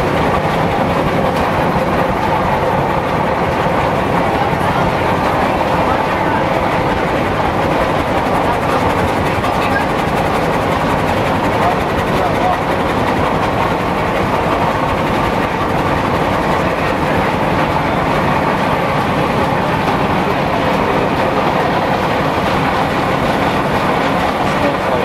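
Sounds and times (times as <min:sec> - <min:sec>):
mill machinery rumble and clatter: 0:00.0 - 0:25.0.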